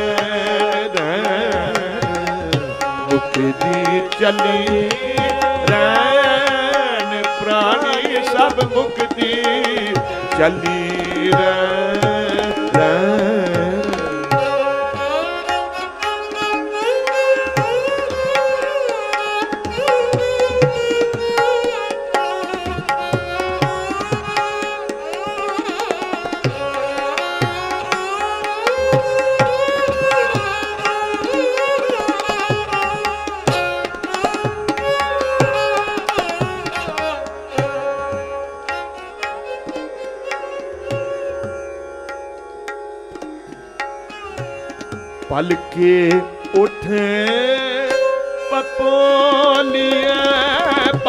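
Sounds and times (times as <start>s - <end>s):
bowed string instrument melody: 0.0s - 51.0s
tabla drumming: 0.0s - 51.0s.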